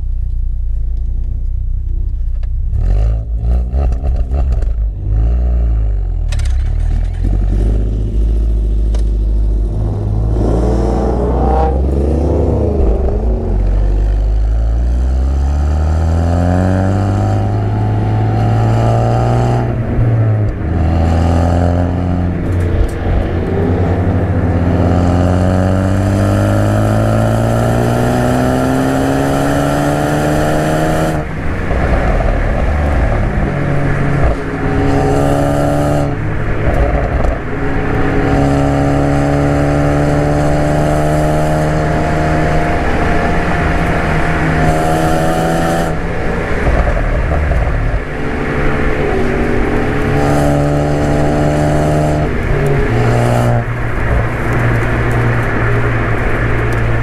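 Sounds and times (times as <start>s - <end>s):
exhaust crackles and pops: 0.0s - 5.1s, 6.1s - 15.4s, 21.8s - 24.9s, 25.7s - 57.0s
car engine accelerating hard: 2.6s - 57.0s.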